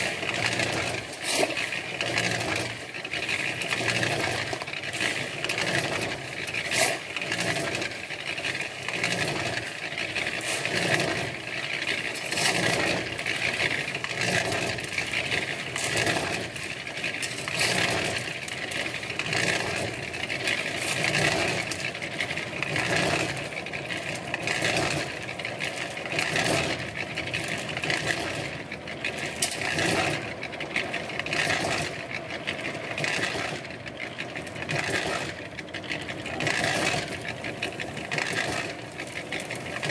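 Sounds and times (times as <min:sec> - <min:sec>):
shovel scraping aggregate: 0:00.0 - 0:30.3, 0:31.0 - 0:32.0, 0:33.0 - 0:39.9
cement mixer churning concrete: 0:00.0 - 0:39.9.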